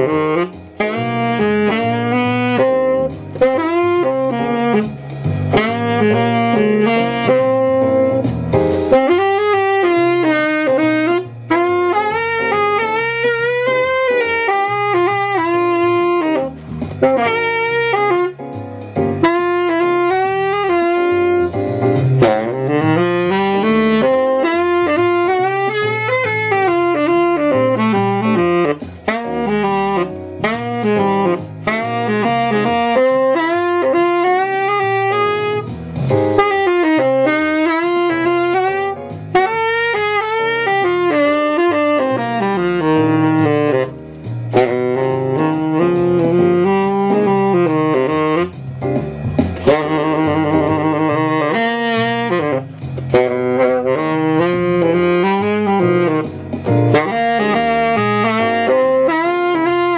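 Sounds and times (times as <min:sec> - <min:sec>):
tenor saxophone jazz line: 0:00.0 - 0:59.9.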